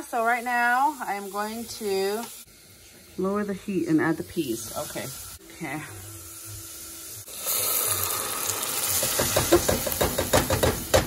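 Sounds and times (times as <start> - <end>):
liquid sizzling in hot pan: 0.0 - 11.0.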